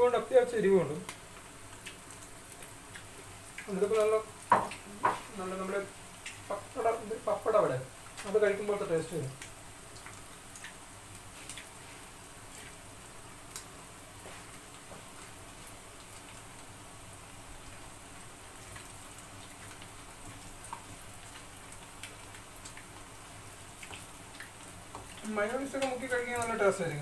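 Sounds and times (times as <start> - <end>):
fish frying in oil: 0.0 - 27.0.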